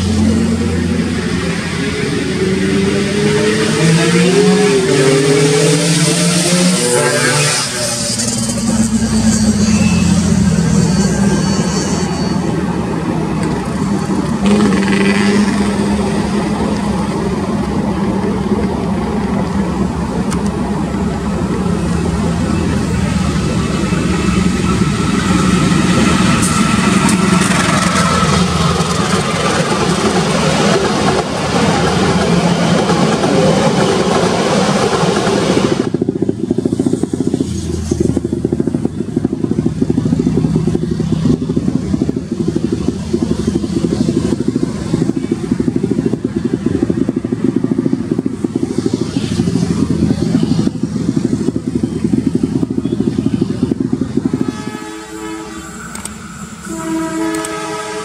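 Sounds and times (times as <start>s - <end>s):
diesel locomotive drone: 0.0s - 58.0s
train rumbling in a tunnel: 0.0s - 58.0s
wheel and rail noise: 0.0s - 58.0s.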